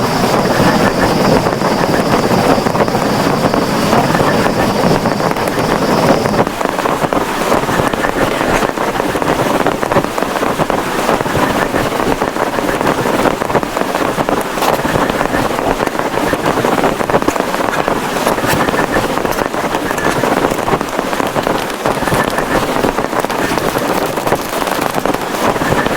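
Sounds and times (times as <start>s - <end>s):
heavy rain on a plastic tarpaulin: 4.7s - 25.9s.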